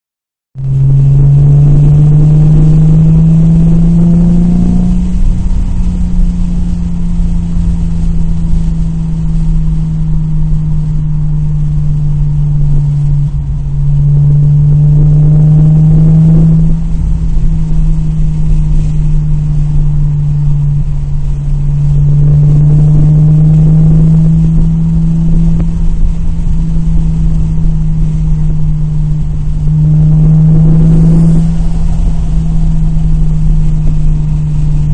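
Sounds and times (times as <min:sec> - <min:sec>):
car engine droning under load: 0:00.6 - 0:34.9.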